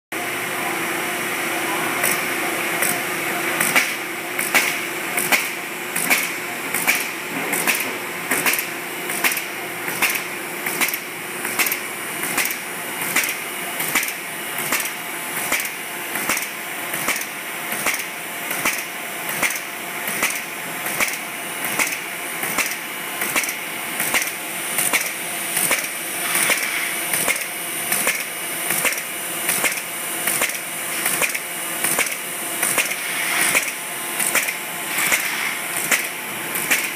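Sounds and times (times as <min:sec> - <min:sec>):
folder-gluer machine running: 0:00.2 - 0:36.9
sharp machine clicks: 0:03.6 - 0:36.9.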